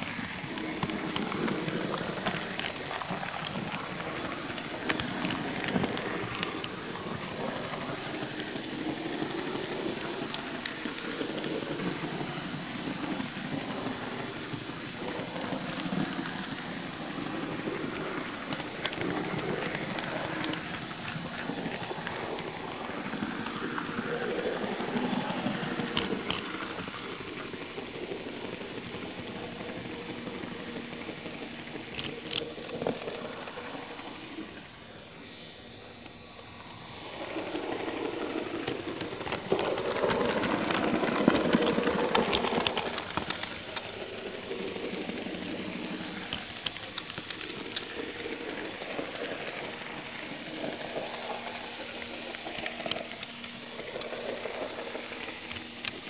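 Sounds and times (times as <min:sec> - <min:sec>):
model train wheels rolling: 0:00.0 - 0:56.0.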